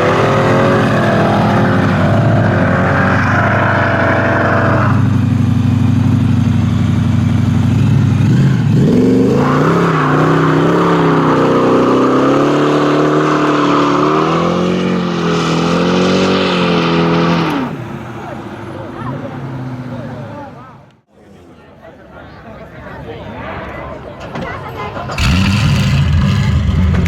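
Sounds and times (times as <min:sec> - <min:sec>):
car engine revving: 0:00.0 - 0:21.0, 0:25.0 - 0:27.0.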